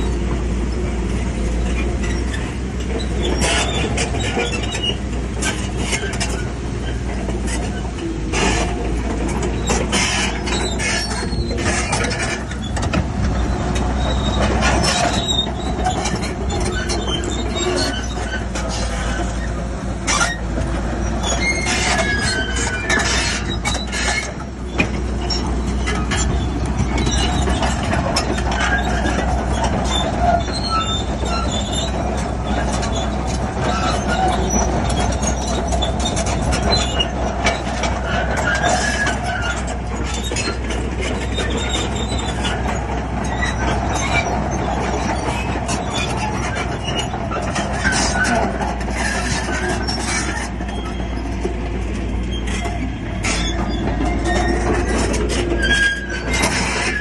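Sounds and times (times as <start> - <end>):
bulldozer diesel engine under load: 0.0 - 57.0
steel tracks squealing and clanking: 0.0 - 57.0.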